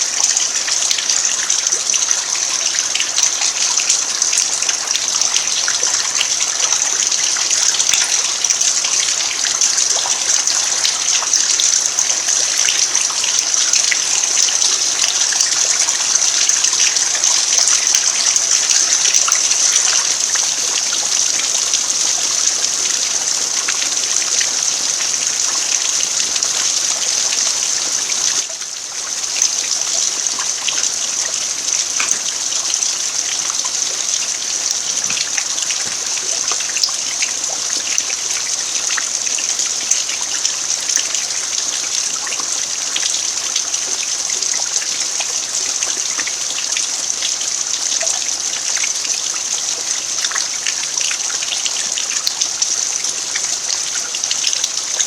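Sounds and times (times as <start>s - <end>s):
steady rain on earth: 0.0s - 55.0s.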